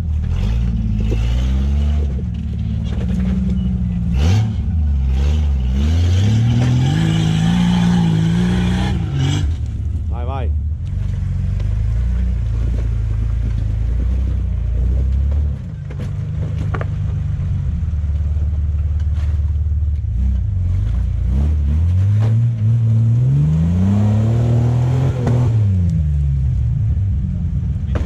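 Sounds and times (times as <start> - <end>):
engine running and revving: 0.0 - 28.0.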